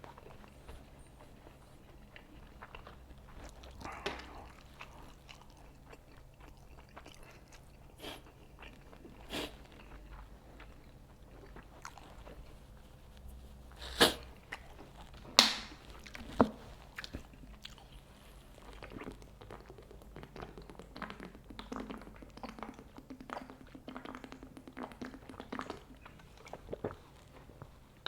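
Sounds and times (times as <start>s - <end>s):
chewing and mouth sounds: 0.0s - 28.0s.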